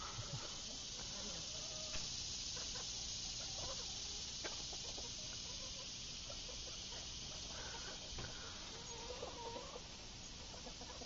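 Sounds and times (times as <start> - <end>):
high-pitched insect hiss: 0.0 - 11.0.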